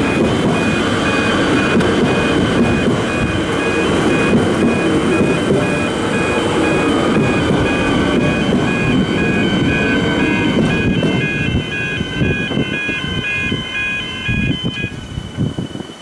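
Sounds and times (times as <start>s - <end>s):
level crossing warning bells ringing: 0.0s - 15.0s
electric train rumbling: 0.0s - 16.0s.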